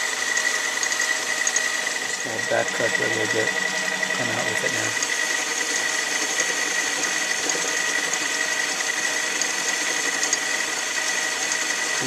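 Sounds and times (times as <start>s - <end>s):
metal lathe motor whining: 0.0s - 12.0s.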